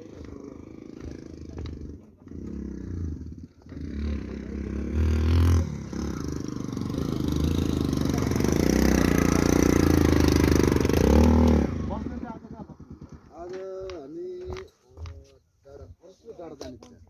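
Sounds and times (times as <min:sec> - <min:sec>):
motorcycle engine running unevenly: 0:00.0 - 0:14.0.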